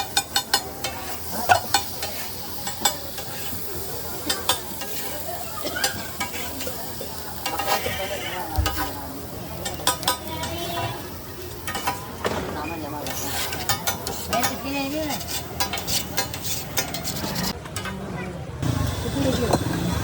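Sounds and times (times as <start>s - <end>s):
food sizzling in a pan: 0.0s - 17.4s.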